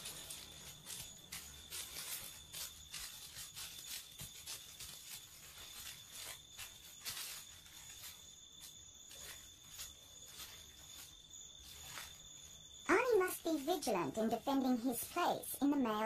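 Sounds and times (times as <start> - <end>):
insect trilling: 0.0 - 16.0.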